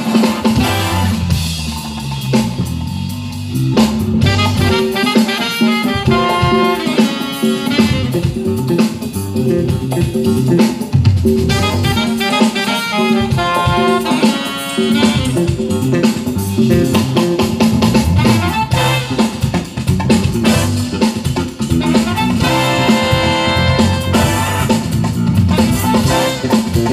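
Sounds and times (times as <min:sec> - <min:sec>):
drum kit: 0:00.0 - 0:26.9
keyboard playing jazz: 0:00.0 - 0:26.9.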